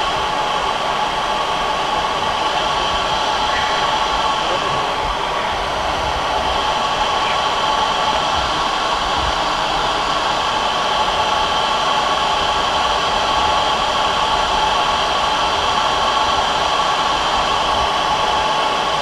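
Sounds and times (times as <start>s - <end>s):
jet fighter roaring in flight: 0.0s - 19.0s.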